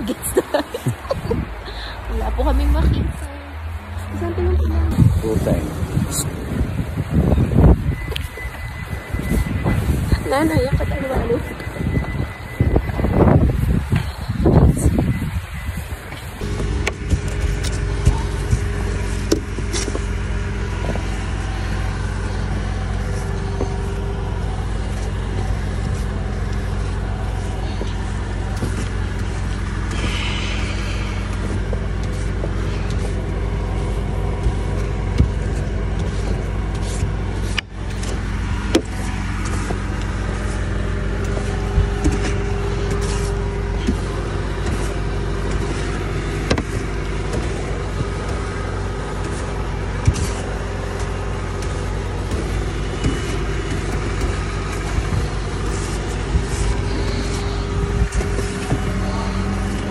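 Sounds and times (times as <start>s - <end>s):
car engine idling: 0.0s - 59.9s
snow brush sweeping car: 0.0s - 59.9s.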